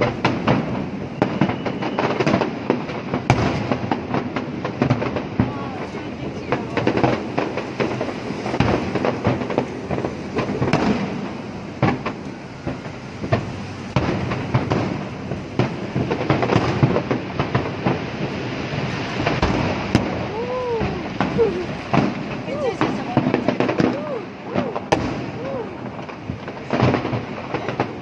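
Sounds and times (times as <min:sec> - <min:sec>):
fireworks bangs: 0:00.0 - 0:28.0
fireworks crackling rumble: 0:00.0 - 0:28.0.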